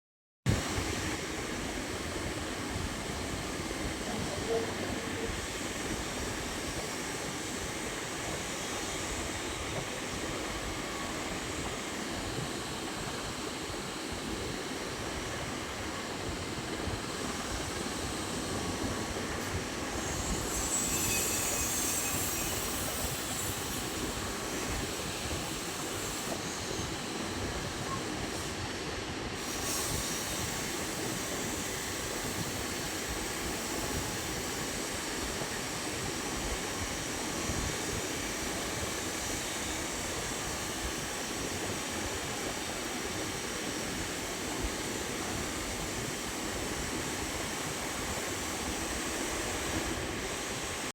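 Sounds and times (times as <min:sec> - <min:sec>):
lathe running: 0:00.9 - 0:50.9.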